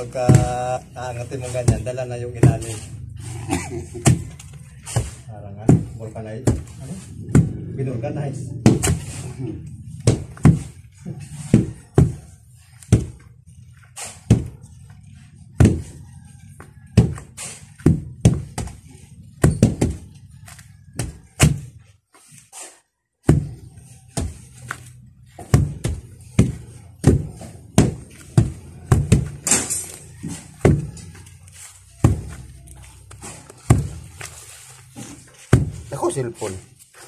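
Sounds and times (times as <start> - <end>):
wooden tampers thudding on earth: 0.0 - 3.3, 8.6 - 37.0.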